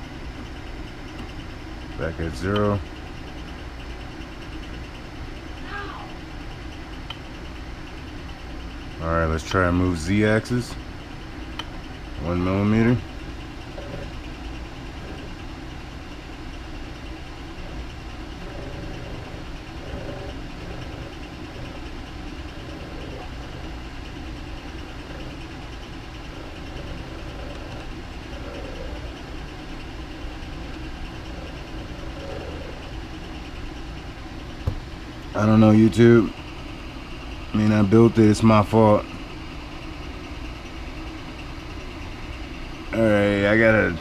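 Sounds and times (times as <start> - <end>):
steady mechanical hum: 0.0 - 44.0.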